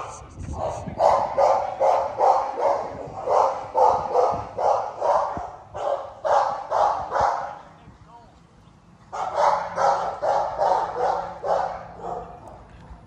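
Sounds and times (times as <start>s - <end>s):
dog barking: 0.0s - 7.6s, 9.1s - 12.6s.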